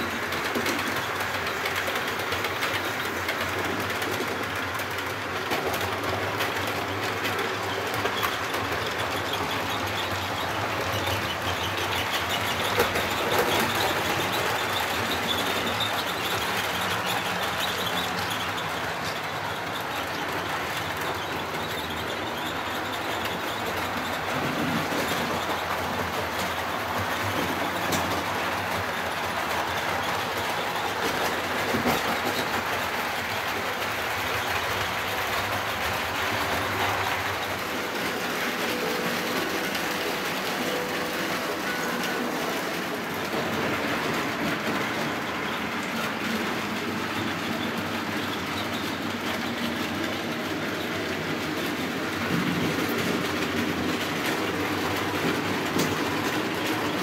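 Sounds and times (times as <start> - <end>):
model trains rumbling and clattering: 0.0 - 57.0.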